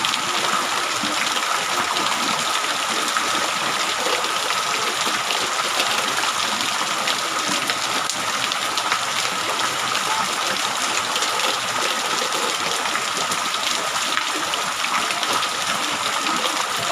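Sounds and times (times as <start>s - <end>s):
gushing water: 0.0s - 16.9s
heavy rain: 0.0s - 16.9s.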